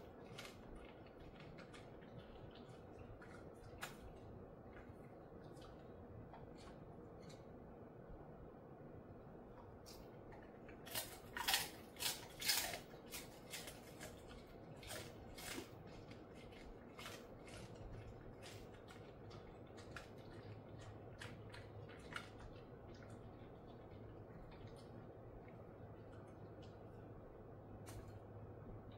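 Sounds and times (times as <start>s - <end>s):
dog crunching a treat: 0.0s - 7.5s, 9.6s - 26.9s.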